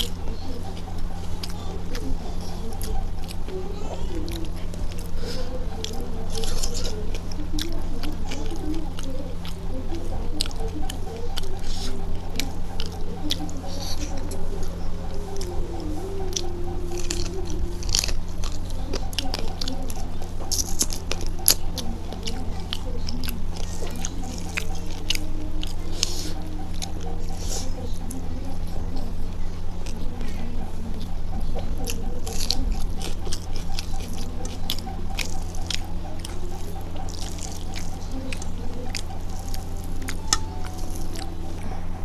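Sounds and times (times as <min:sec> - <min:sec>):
steady low hum: 0:00.0 - 0:42.0
wet chewing and lip smacking: 0:00.0 - 0:42.0.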